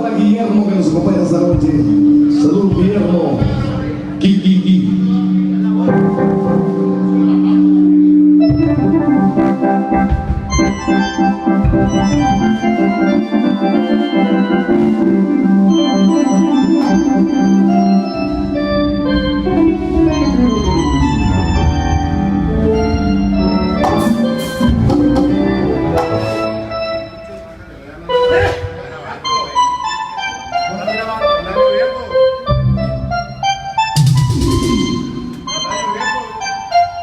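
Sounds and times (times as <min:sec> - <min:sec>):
bass: 0:00.0 - 0:37.0
organ-style keyboard chords: 0:00.0 - 0:37.0
live cumbia band playing: 0:00.1 - 0:37.0.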